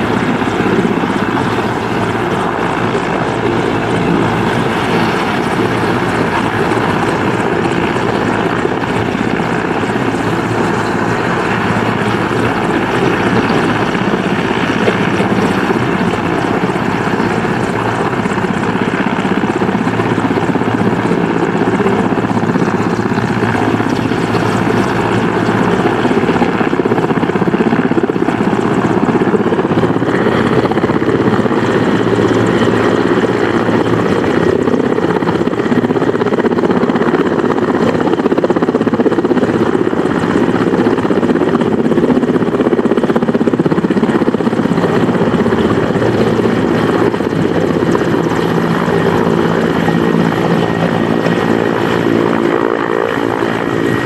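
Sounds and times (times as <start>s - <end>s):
helicopter engines and rotor: 0.0s - 54.0s.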